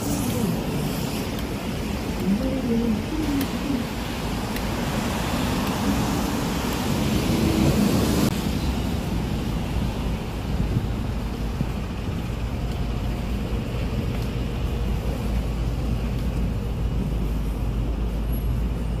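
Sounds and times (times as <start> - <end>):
bus close by: 0.0 - 19.0
city traffic rumble: 0.0 - 19.0.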